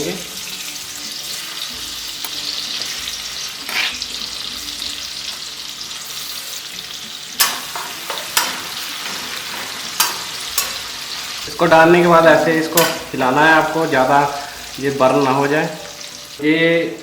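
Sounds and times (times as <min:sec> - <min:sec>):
garlic and chillies sizzling in oil: 0:00.0 - 0:17.0.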